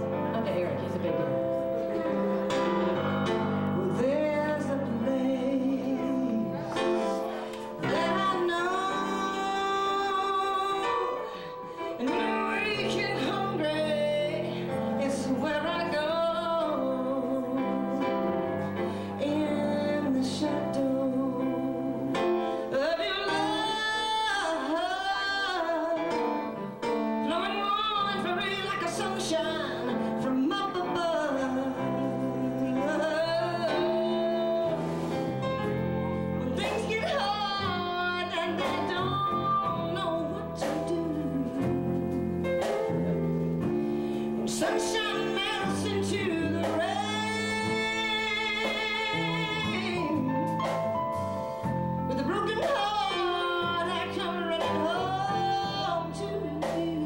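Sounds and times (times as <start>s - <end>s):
woman singing with vibrato: 0.0s - 42.2s, 44.3s - 50.6s, 51.8s - 57.0s
live band playing: 0.0s - 57.0s.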